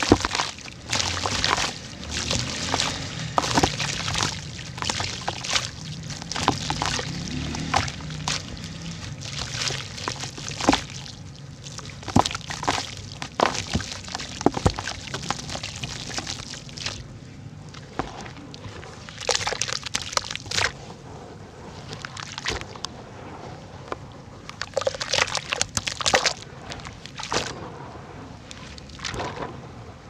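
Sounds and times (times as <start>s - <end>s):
dirt crumbling and popping in water: 0.0s - 17.1s, 17.7s - 20.8s, 21.8s - 22.9s, 23.9s - 27.6s, 28.5s - 29.5s
water sloshing and splashing: 0.0s - 30.0s.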